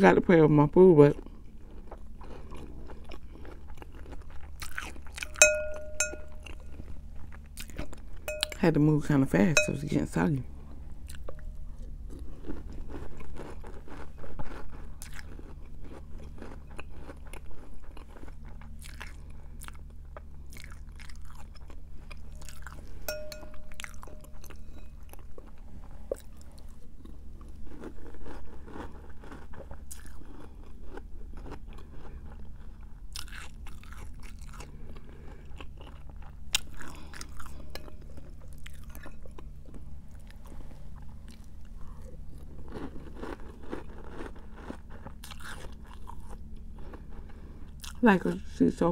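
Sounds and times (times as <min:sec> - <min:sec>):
steady low hum: 0:00.0 - 0:48.9
chewing cereal crunches: 0:01.0 - 0:05.4, 0:11.0 - 0:23.1, 0:23.7 - 0:48.0.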